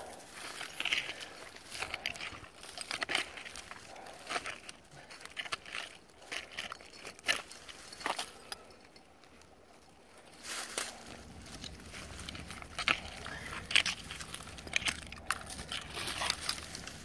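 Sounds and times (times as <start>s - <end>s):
crumbly rustles of dirt: 0.0s - 17.0s
hand scraping loose dirt: 0.0s - 17.0s.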